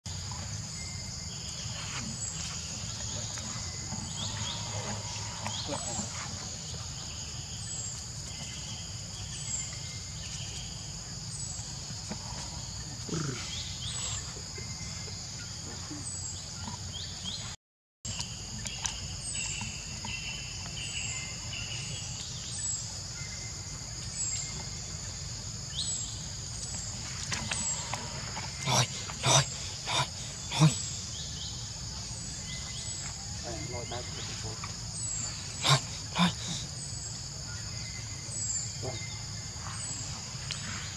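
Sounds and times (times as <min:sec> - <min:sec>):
high-pitched insect chorus: 0:00.1 - 0:17.4, 0:18.1 - 0:40.9.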